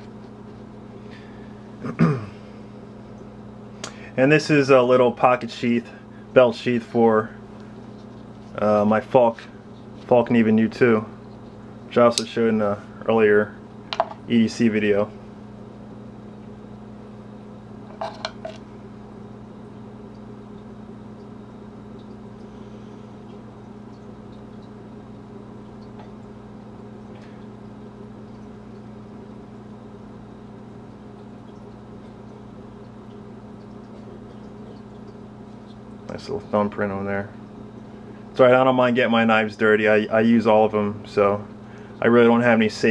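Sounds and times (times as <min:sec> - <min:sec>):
low room hum: 0:00.0 - 0:42.9.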